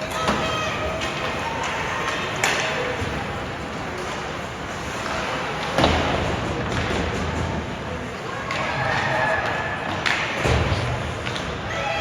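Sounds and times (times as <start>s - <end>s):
arena noise: 0.0s - 12.0s.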